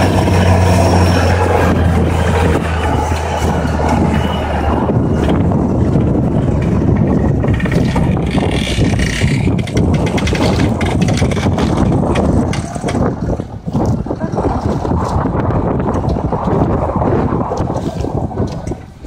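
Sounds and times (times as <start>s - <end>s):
tractor engine under heavy load: 0.0s - 19.0s.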